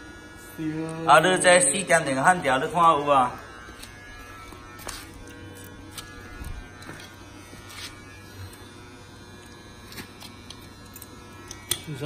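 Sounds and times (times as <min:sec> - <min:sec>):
welder electrical buzz and hum: 0:00.0 - 0:12.0.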